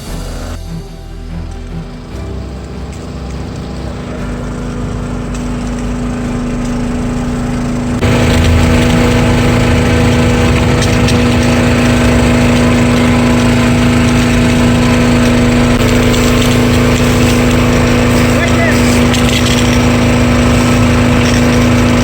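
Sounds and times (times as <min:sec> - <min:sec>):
motorboat engine drone: 0:00.0 - 0:22.0.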